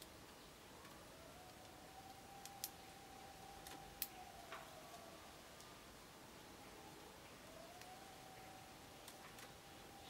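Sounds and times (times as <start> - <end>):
faint steady tone: 0.0 - 10.0.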